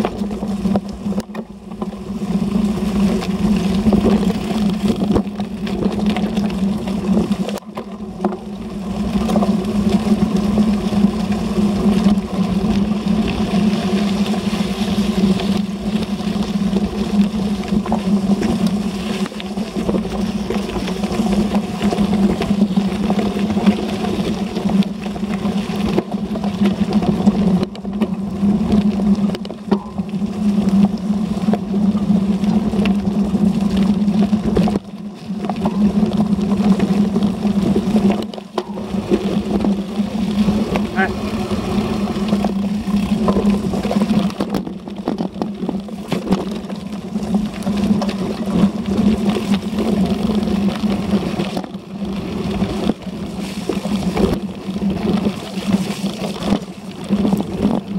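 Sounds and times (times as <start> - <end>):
bike rattling on gravel: 0.0 - 57.9
wind and rolling hum: 0.0 - 57.9.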